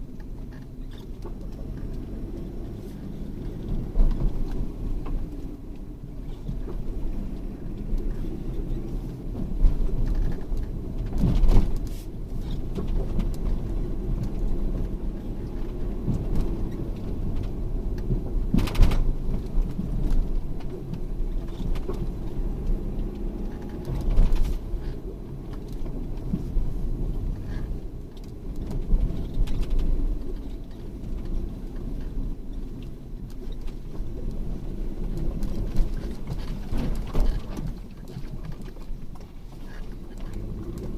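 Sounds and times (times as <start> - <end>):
vehicle engine low rumble: 0.0 - 40.9.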